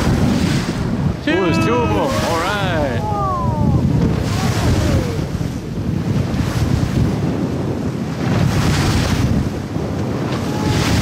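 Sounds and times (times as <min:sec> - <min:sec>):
waves and spray hissing on hull: 0:00.0 - 0:11.0
wind buffeting the microphone: 0:00.0 - 0:11.0.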